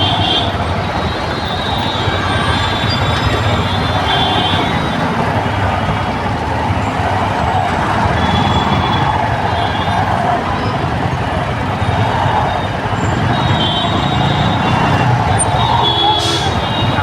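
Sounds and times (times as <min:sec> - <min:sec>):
road traffic engines running: 0:00.0 - 0:17.0.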